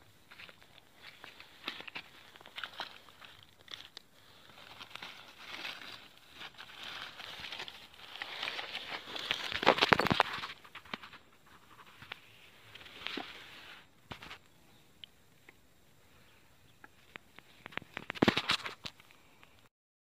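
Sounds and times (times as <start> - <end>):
dry leaves and feathers rustling: 0.2 - 14.5, 17.0 - 19.2.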